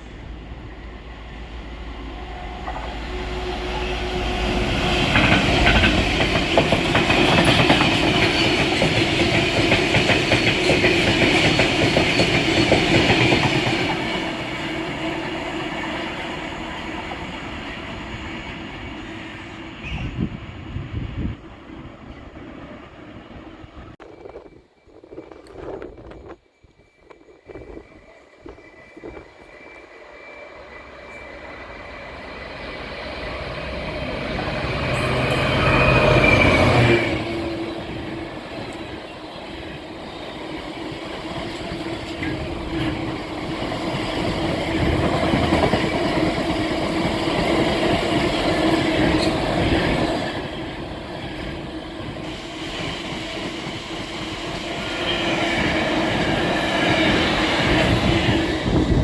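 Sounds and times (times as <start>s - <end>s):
diesel locomotive engine passing: 0.0s - 24.0s, 27.5s - 59.0s.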